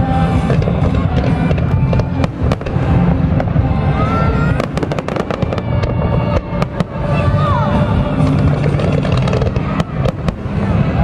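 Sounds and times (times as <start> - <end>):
fireworks bangs and crackles: 0.0 - 11.0
low rumble: 0.0 - 11.0
music playing: 0.0 - 11.0.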